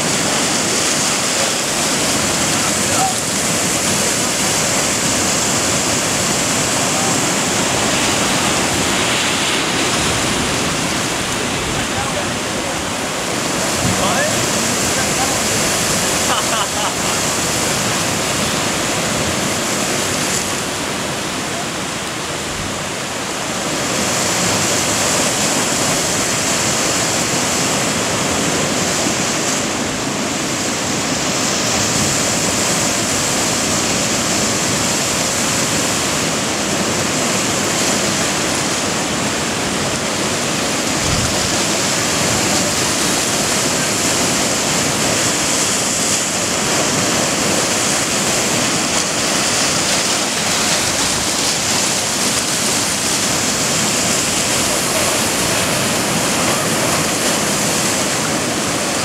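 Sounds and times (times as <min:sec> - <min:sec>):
rush of pouring seawater and waves: 0:00.0 - 0:59.0.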